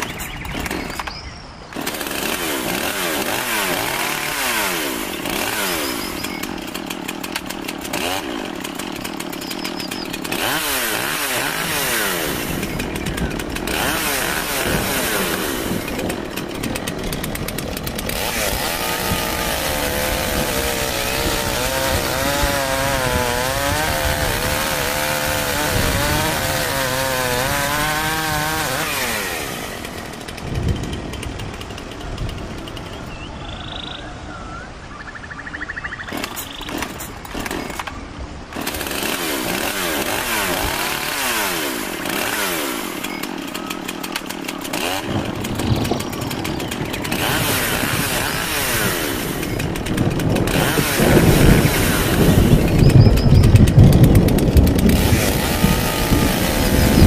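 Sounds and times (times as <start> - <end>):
chainsaw revving: 0.0 - 34.0, 36.0 - 57.0.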